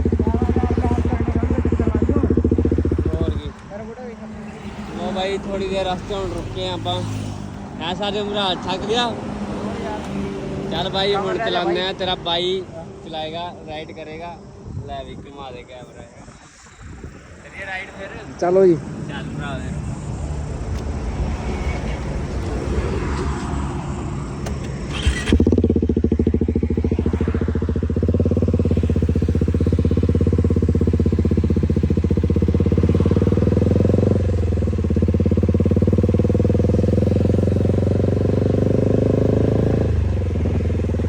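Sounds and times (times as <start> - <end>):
loud motorcycle engine: 0.0 - 13.8, 18.9 - 41.0
road noise: 0.0 - 41.0.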